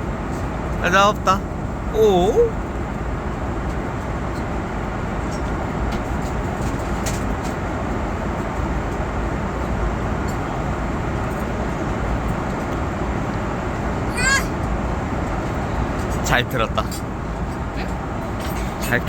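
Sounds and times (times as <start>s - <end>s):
airliner cabin engine rush: 0.0s - 19.0s.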